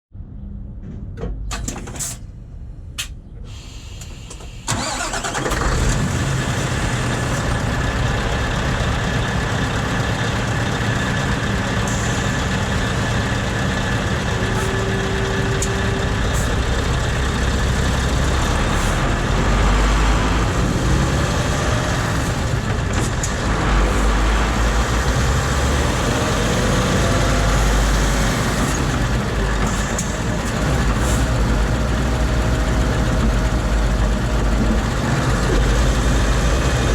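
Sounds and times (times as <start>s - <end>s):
diesel engine starting and idling: 1.4s - 36.9s.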